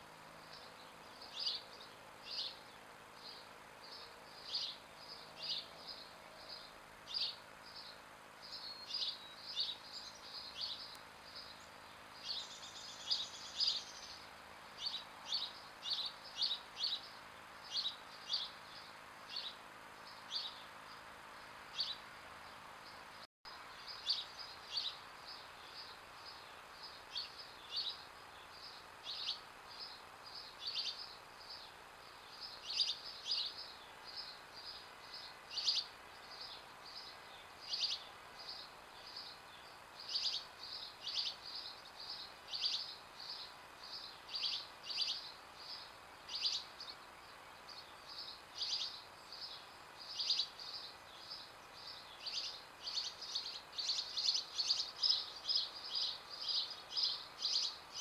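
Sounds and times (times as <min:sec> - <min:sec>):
faint steady background noise: 0:00.0 - 0:58.0
small songbirds chirping: 0:00.0 - 0:58.0.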